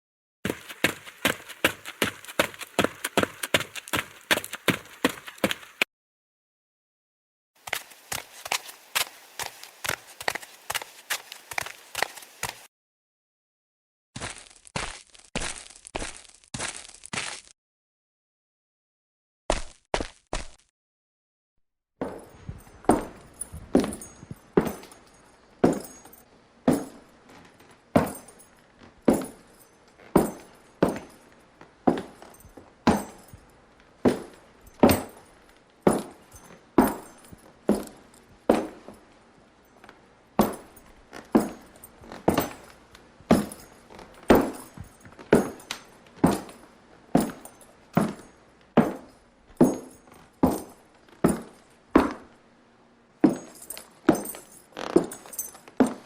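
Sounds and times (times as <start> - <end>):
footsteps walking: 0.5 - 5.9, 7.6 - 12.7, 14.2 - 17.5, 22.0 - 52.4, 53.2 - 56.0.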